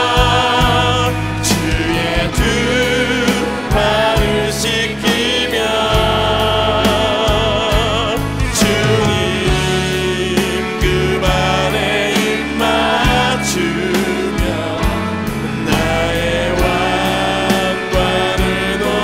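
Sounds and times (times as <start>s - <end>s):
electric bass low notes: 0.0s - 19.0s
worship band playing slow song: 0.0s - 19.0s.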